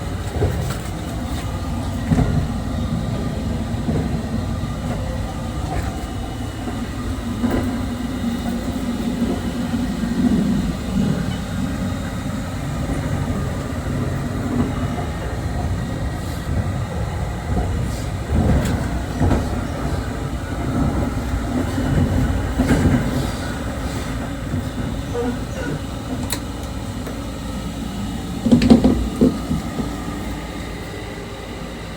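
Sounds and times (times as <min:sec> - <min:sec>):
train wheels rumbling on rail: 0:00.0 - 0:31.9.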